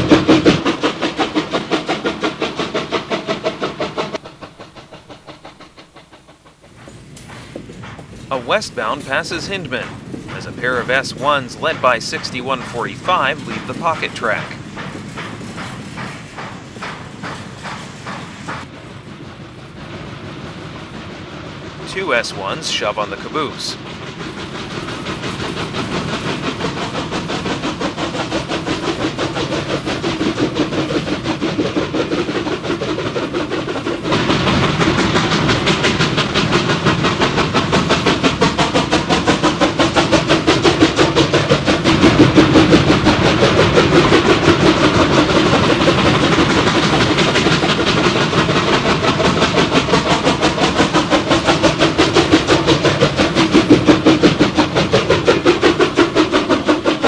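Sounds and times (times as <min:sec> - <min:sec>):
steam locomotive exhaust chuffing: 0:00.0 - 0:57.0
train rumble: 0:00.0 - 0:57.0.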